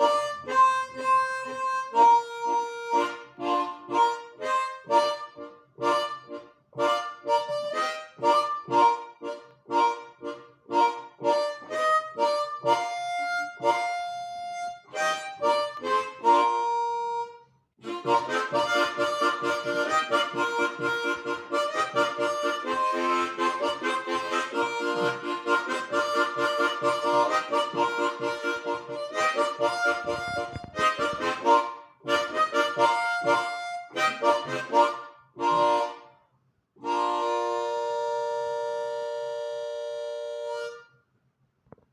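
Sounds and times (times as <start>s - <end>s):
harmonica playing a tune: 0.0s - 36.2s, 36.8s - 41.0s.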